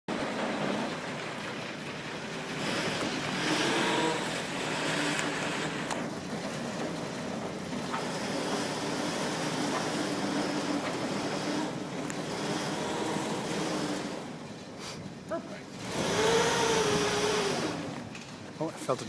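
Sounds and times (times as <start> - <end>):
motorboat engine running: 0.1 - 19.0
broad wash of noise: 0.2 - 6.1, 7.6 - 19.0.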